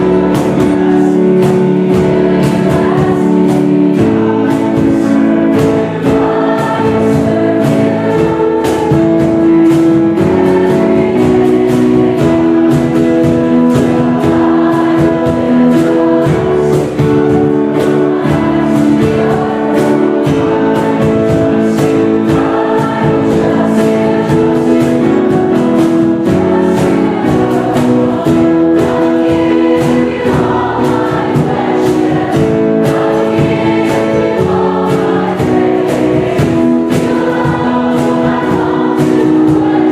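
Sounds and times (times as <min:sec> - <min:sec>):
group singing a worship song: 0:00.0 - 0:39.9
instrumental accompaniment: 0:00.0 - 0:39.9
steady percussive beat: 0:00.0 - 0:39.9.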